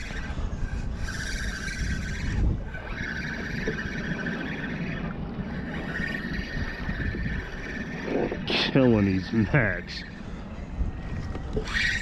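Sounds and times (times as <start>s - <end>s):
fishing reel whining: 0.0s - 10.2s, 10.9s - 12.0s
wind rumble on microphone: 0.0s - 12.0s.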